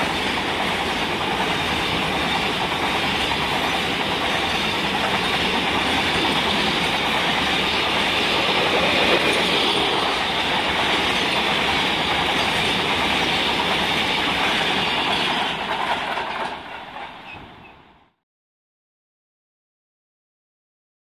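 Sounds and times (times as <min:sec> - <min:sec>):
train wheels on rails: 0:00.0 - 0:18.2.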